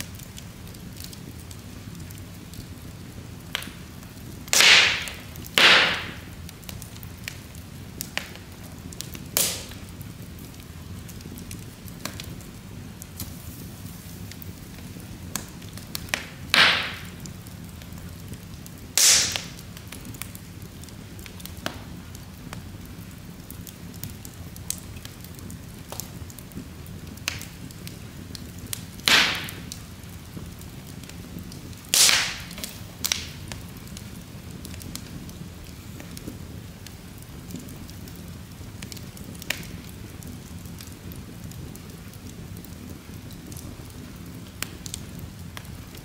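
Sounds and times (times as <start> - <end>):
fire crackling: 0.0 - 46.0
loud sharp pops of burning logs: 0.0 - 46.0
low rumble of flames: 0.0 - 46.0.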